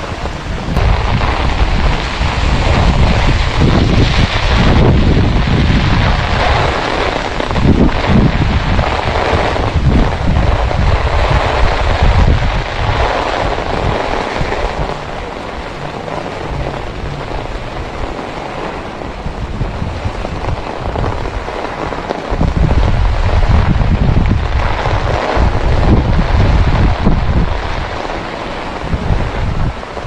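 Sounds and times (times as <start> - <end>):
heavy rain on a wet street: 0.0 - 30.0
wind gusts buffeting microphone: 0.0 - 30.0.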